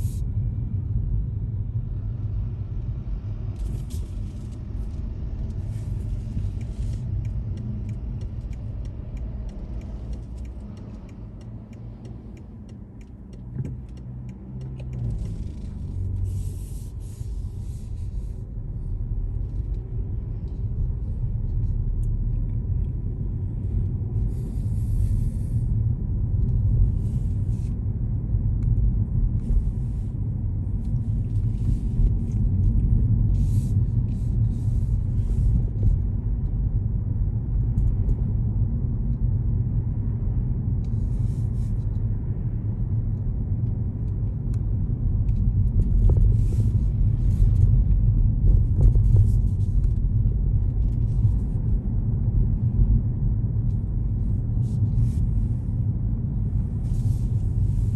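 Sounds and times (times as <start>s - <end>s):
car driving rumble: 0.0s - 57.9s.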